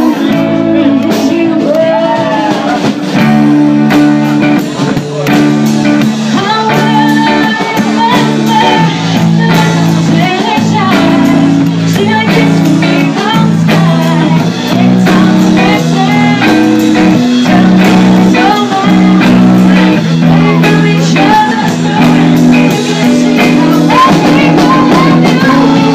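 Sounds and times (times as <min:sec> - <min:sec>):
electric guitar: 0:00.0 - 0:25.9
rhythm section: 0:00.0 - 0:25.9
woman singing lead: 0:00.0 - 0:25.9.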